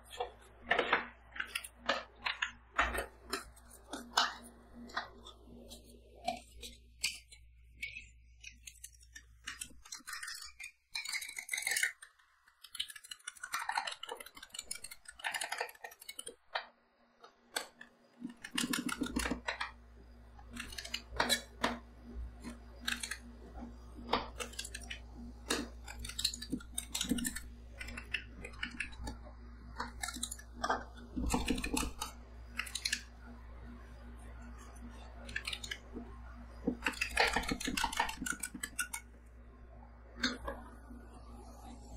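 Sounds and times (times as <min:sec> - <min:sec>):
steady low hum: 0:00.0 - 0:10.3, 0:18.0 - 0:41.9.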